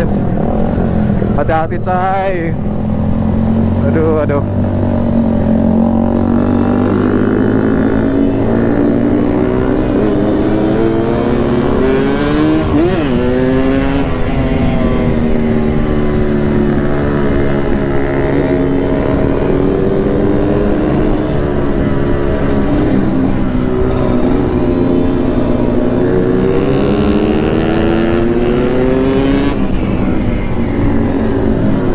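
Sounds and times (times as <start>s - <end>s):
two-stroke motorcycle engine: 0.0s - 31.9s.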